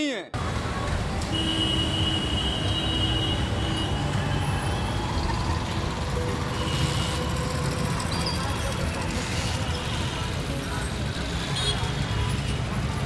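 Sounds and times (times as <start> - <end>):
motorcycle and scooter engines: 0.4 - 13.0
road traffic: 0.4 - 13.0.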